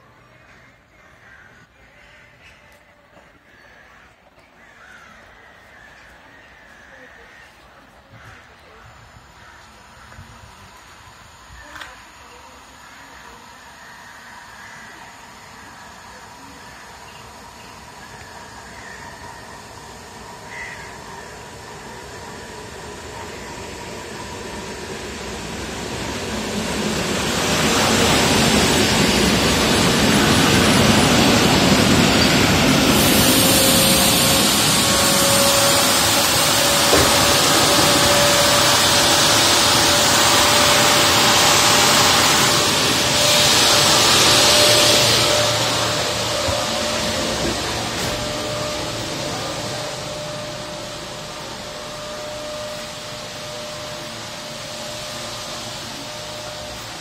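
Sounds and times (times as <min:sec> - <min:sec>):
electric train rumble and hiss: 0:00.0 - 0:57.0
train whine: 0:00.0 - 0:57.0.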